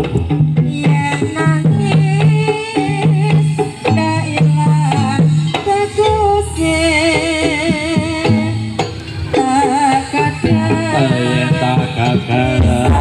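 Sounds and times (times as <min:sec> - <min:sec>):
drum strokes: 0:00.0 - 0:13.0
struck pitched notes: 0:00.0 - 0:13.0.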